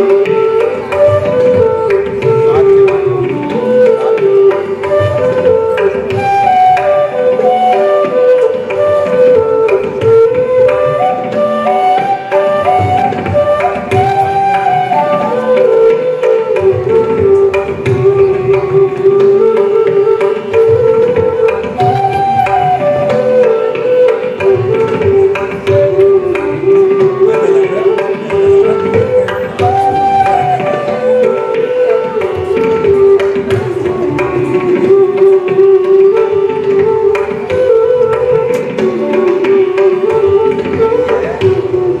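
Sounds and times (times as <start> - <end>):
bamboo flutes playing a melody: 0.0 - 42.0
tabla strokes: 0.0 - 42.0.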